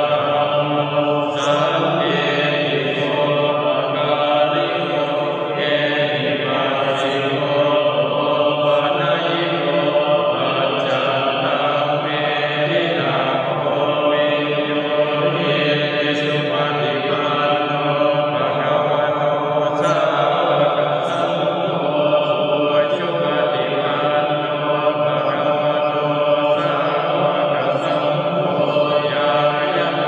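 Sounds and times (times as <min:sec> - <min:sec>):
men chanting: 0:00.0 - 0:30.0.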